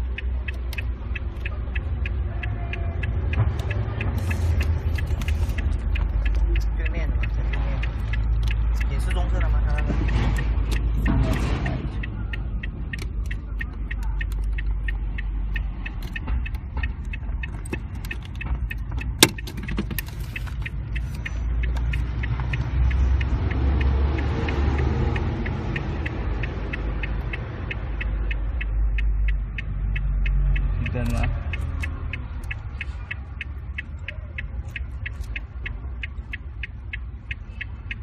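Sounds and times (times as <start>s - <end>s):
turn-signal relay clicking: 0.0s - 38.0s.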